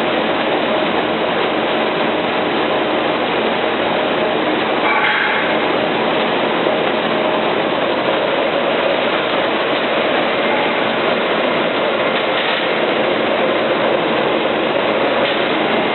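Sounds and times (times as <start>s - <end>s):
machine running: 0.0s - 15.9s.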